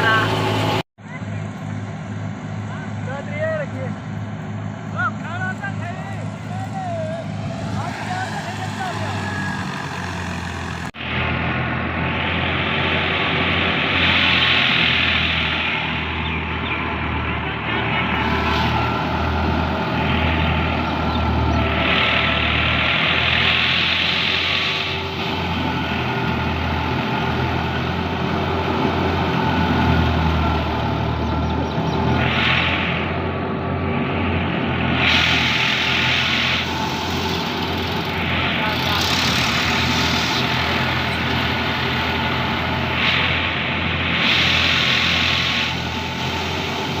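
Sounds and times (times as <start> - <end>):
heavy machine engine running: 0.0 - 47.0.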